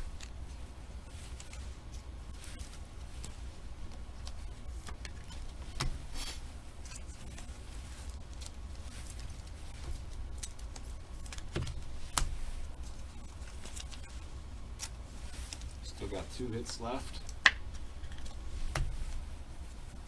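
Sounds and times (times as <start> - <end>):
cards and wrappers rustling: 0.0 - 20.0
steady low hum: 0.0 - 20.0.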